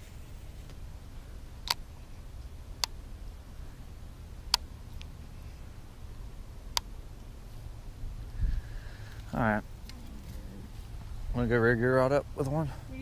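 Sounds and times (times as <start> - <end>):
faint low rumble: 0.0 - 13.0.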